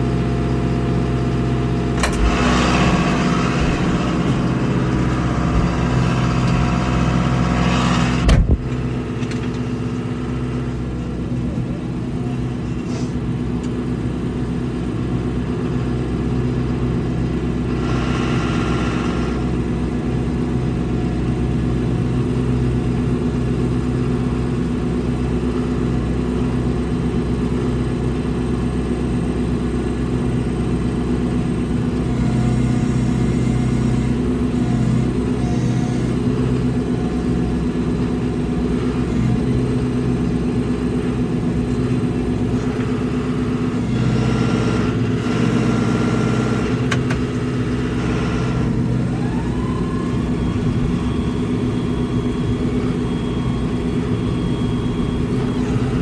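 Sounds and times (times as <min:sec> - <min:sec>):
farm vehicle engine running: 0:00.0 - 0:56.0.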